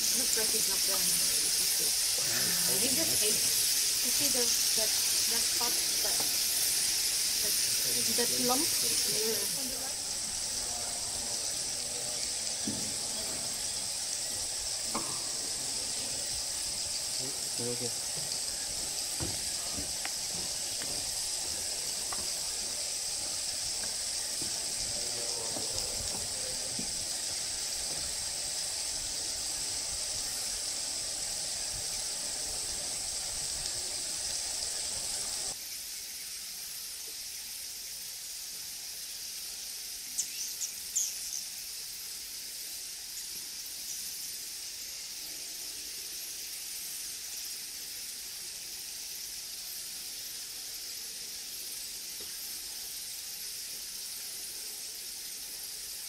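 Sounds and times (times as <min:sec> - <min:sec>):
high-pitched forest hiss: 0:00.0 - 0:56.0.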